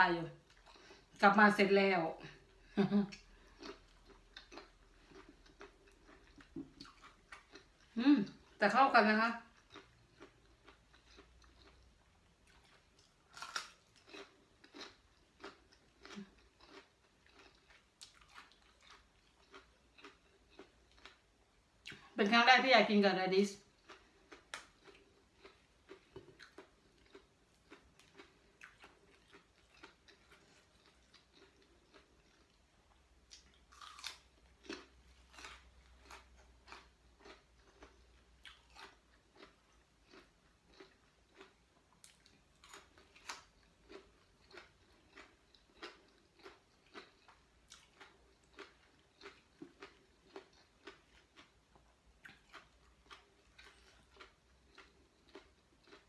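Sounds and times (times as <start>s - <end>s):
person chewing crunchy food: 0.4s - 1.2s, 2.3s - 8.6s, 9.4s - 22.2s, 23.6s - 56.0s.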